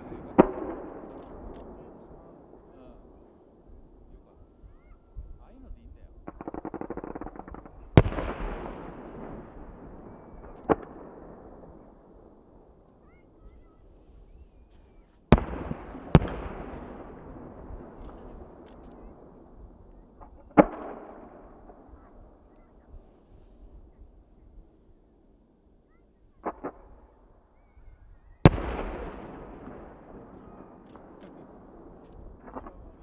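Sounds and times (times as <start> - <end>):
fireworks crackling: 0.0 - 4.6, 5.4 - 24.0, 28.4 - 33.0
fireworks booms: 0.0 - 24.9, 26.4 - 27.3, 28.4 - 33.0.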